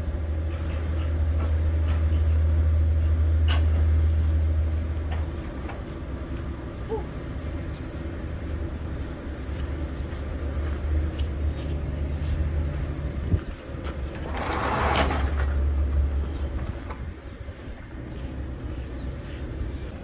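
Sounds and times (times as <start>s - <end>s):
truck engine rumbling: 0.0s - 20.0s.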